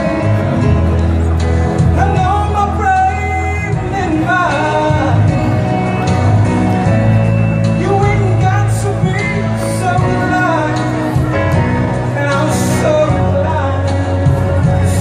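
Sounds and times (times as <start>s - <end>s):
man singing into a microphone: 0.0s - 6.2s, 7.6s - 15.0s
backing music: 0.0s - 15.0s.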